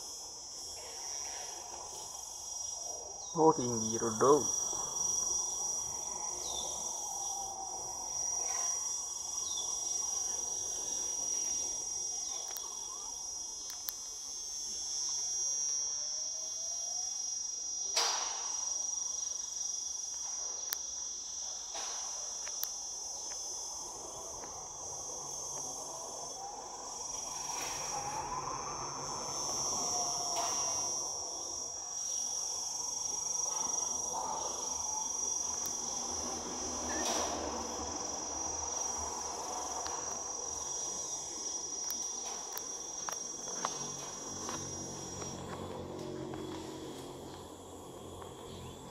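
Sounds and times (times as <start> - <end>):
high-pitched insect drone: 0.0 - 48.9.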